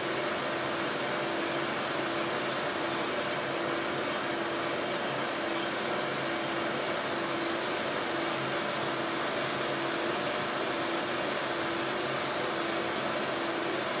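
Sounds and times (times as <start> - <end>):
exhaust fan whoosh and motor hum: 0.0 - 14.0.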